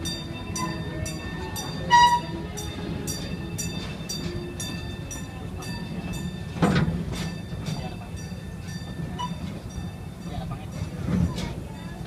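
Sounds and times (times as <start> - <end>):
low rumble of train cars: 0.0 - 12.0
train bell ringing: 0.0 - 12.0.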